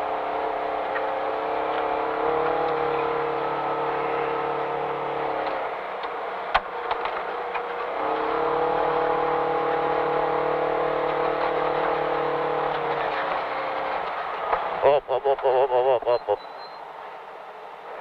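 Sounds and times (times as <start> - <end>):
off-road car engine running: 0.0 - 16.8.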